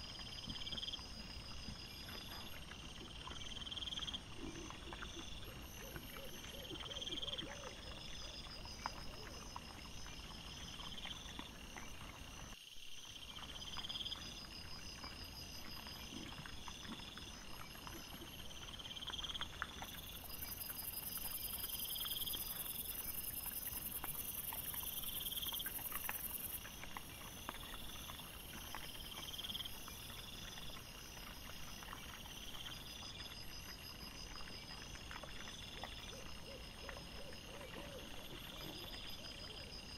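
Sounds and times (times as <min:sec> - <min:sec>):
insects chirping in trills: 0:00.0 - 0:39.9.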